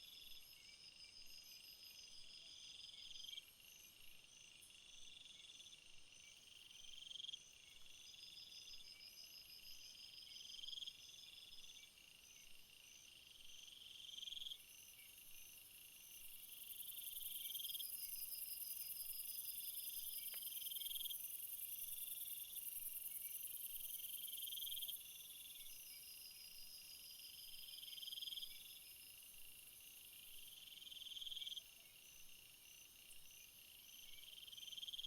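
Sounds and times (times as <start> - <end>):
crickets chirping: 0.0 - 35.0
high steady insect buzz: 0.0 - 35.0.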